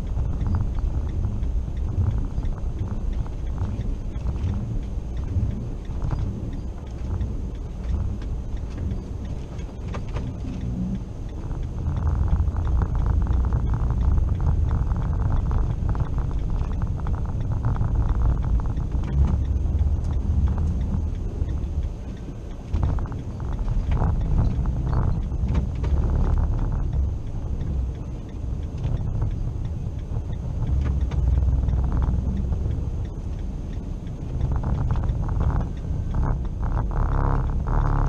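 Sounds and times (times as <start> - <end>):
tyres spinning in snow: 0.0 - 38.0
vehicle engine: 0.0 - 38.0.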